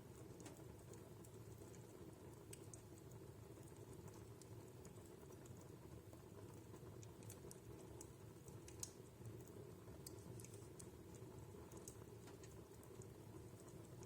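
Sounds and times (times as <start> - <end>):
low steady background: 0.0 - 14.0
wood fire crackling: 0.0 - 14.0.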